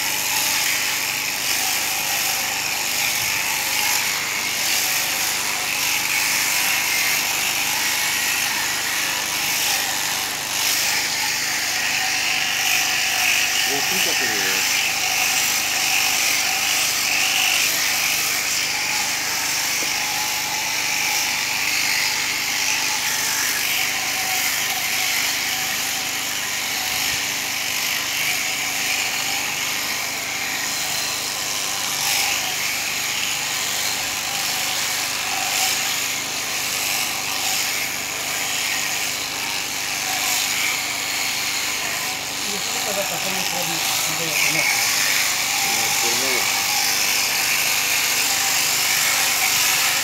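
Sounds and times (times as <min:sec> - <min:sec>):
electric shearing machine running: 0:00.0 - 0:50.0.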